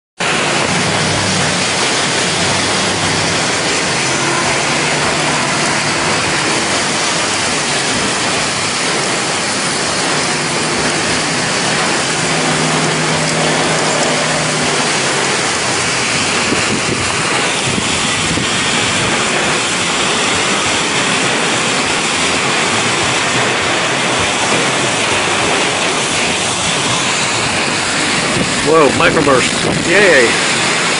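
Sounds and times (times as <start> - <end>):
heavy rain: 0.2 - 30.9
wind: 0.2 - 30.9.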